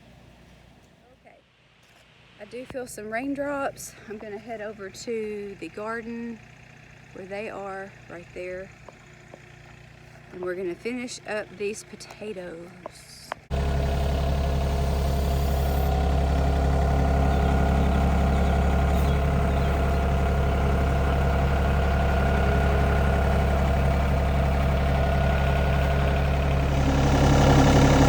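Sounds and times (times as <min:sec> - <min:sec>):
engine humming steadily: 0:03.5 - 0:28.0.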